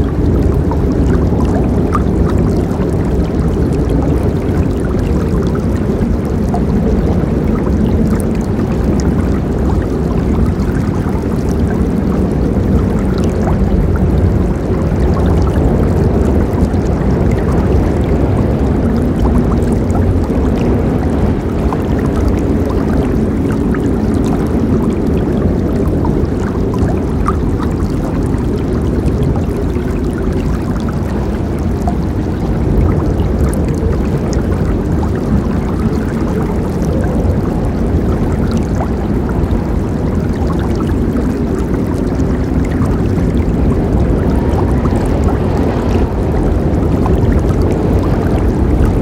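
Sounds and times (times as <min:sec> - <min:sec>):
water splashing and gurgling: 0:00.0 - 0:49.0.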